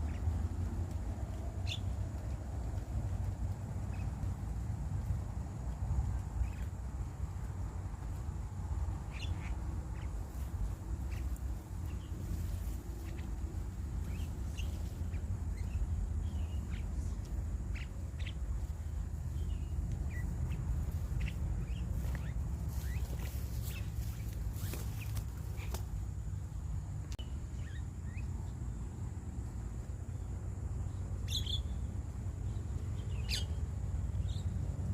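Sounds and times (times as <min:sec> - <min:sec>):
birds chirping: 0:00.0 - 0:26.5, 0:27.1 - 0:28.8, 0:30.0 - 0:34.6
steady low rumble: 0:00.0 - 0:34.9.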